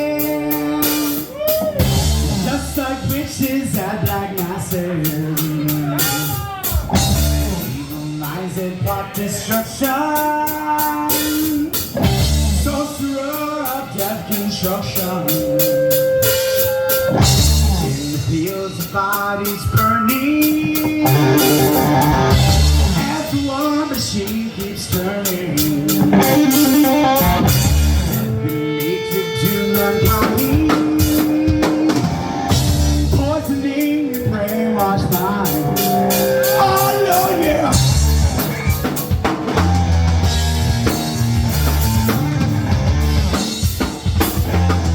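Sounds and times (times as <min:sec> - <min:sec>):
drum kit: 0:00.0 - 0:44.9
electric guitar: 0:00.0 - 0:44.9
live rock band playing: 0:00.0 - 0:44.9.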